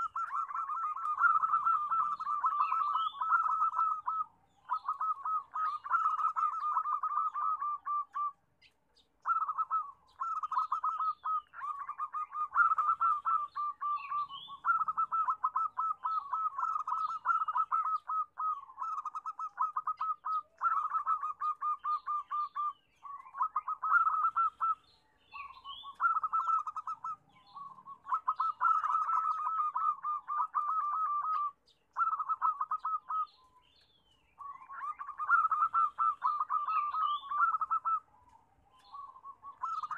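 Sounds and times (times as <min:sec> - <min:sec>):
dove cooing: 0:00.0 - 0:33.5, 0:34.4 - 0:39.9.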